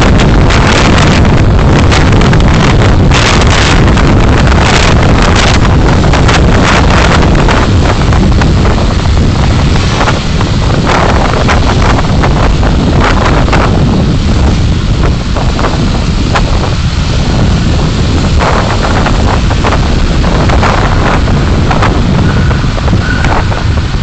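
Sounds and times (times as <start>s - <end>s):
road and wind rumble: 0.0s - 24.0s.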